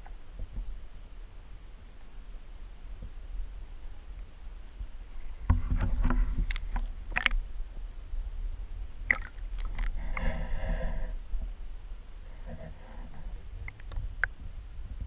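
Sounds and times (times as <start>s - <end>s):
muffled hum: 0.0s - 15.0s
underwater rumble of water: 0.0s - 15.0s.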